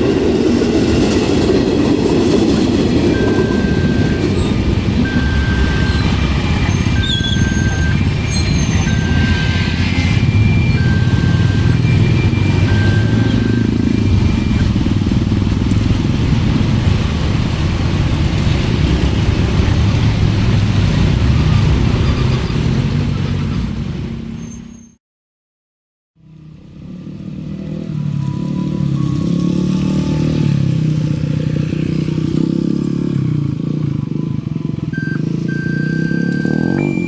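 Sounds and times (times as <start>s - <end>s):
rumble of passing vehicles: 0.0s - 24.9s, 26.2s - 37.0s.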